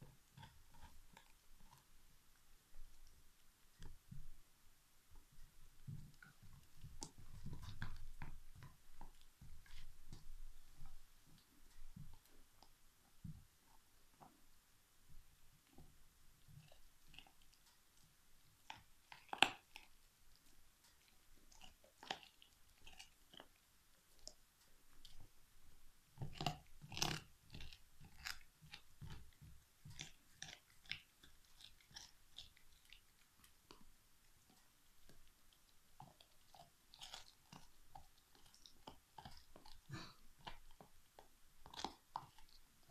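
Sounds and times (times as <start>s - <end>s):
dog gnawing a bone: 0.0s - 1.9s, 5.8s - 12.7s, 15.6s - 25.4s, 26.1s - 42.9s.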